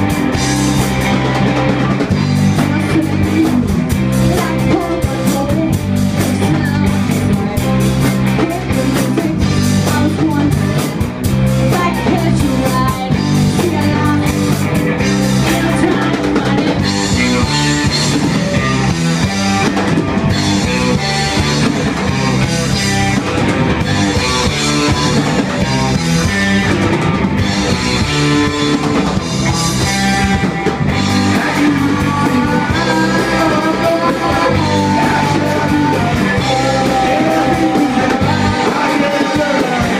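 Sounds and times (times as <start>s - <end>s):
person singing: 0.0s - 26.4s, 27.6s - 39.9s
bass guitar: 0.0s - 39.9s
drum kit: 0.0s - 39.9s
electric guitar: 0.0s - 39.9s.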